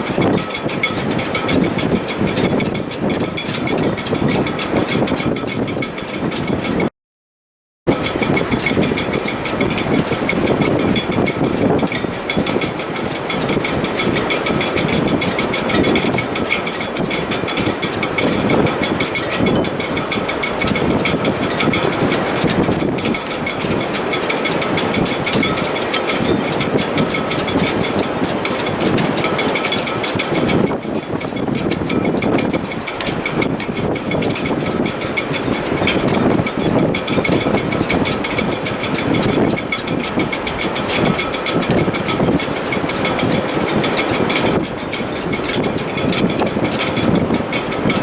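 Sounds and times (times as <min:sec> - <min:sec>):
gusting wind rush: 0:00.0 - 0:06.9, 0:07.9 - 0:48.0.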